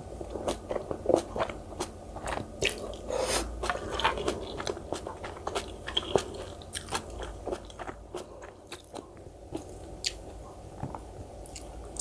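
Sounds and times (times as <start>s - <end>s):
crunchy chewing: 0.2s - 10.2s.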